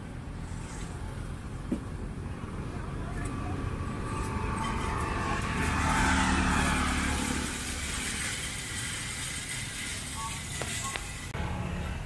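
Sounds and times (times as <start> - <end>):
traffic hum: 0.0 - 12.0
vehicle engine passing: 2.1 - 12.0.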